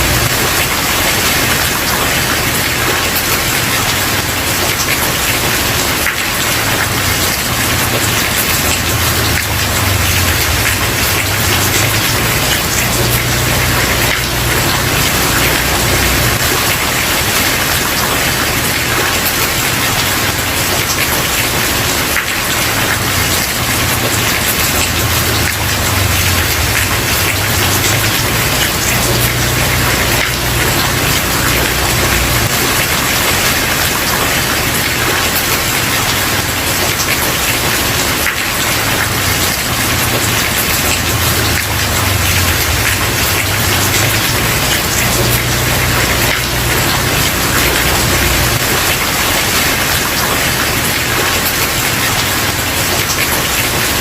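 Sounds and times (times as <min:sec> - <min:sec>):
rain on a wooden porch: 0:00.0 - 0:54.0.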